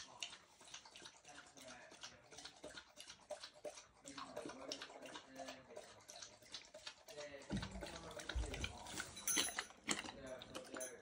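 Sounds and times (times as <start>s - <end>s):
dog lapping water from metal bowl: 0.0s - 11.0s.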